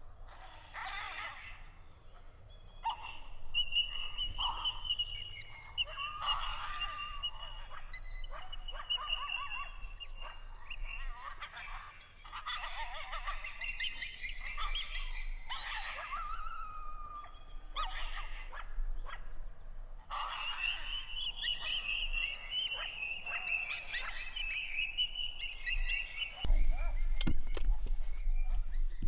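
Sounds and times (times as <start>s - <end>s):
coyotes yipping and howling: 0.0s - 29.0s.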